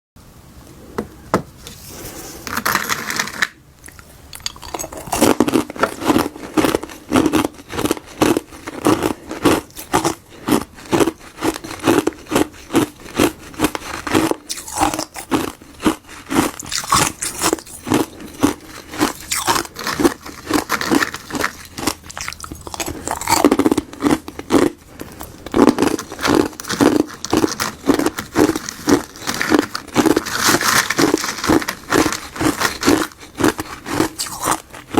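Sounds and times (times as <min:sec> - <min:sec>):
ice being crunched: 0:02.5 - 0:24.7, 0:25.6 - 0:34.9.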